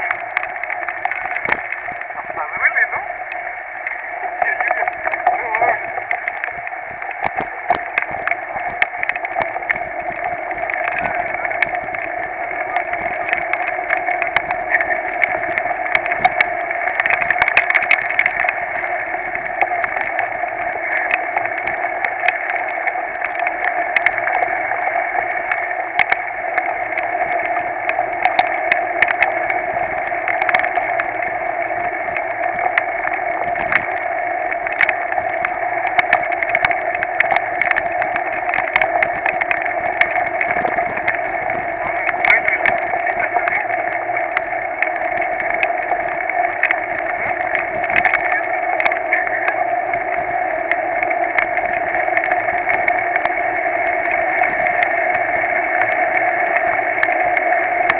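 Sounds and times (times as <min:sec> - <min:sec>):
heavy rain and wind hiss: 0:00.0 - 0:57.9.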